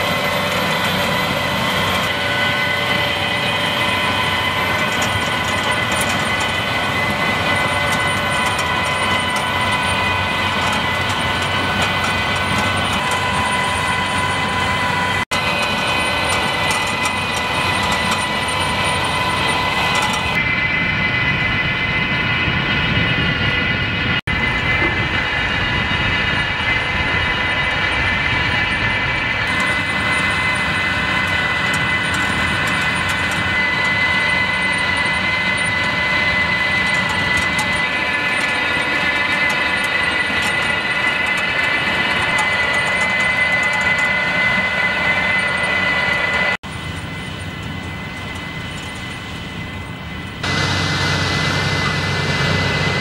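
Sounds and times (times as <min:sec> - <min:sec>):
steady high whine: 0:00.0 - 0:53.0
tractor engine drone: 0:00.0 - 0:53.0.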